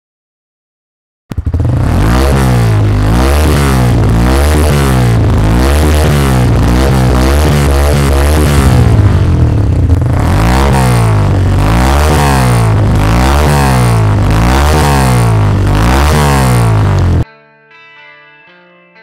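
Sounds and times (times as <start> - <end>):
motorcycle engine revving: 1.3 - 17.2.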